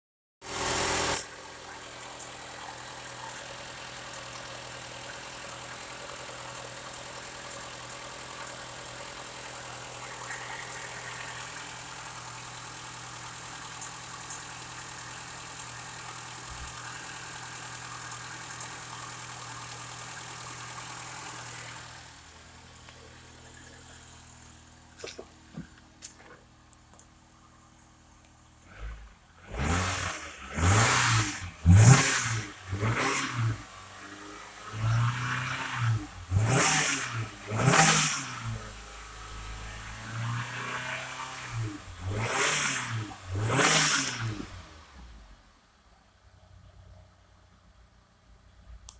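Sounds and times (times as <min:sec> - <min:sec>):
car engine idling and revving: 0:00.4 - 0:48.9.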